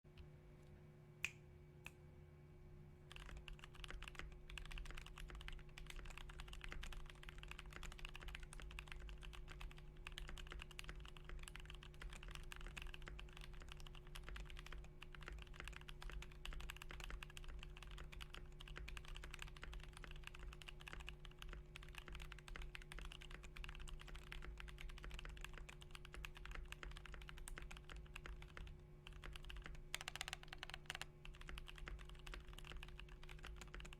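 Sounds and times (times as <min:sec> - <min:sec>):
mechanical keyboard typing: 0:03.1 - 0:33.9.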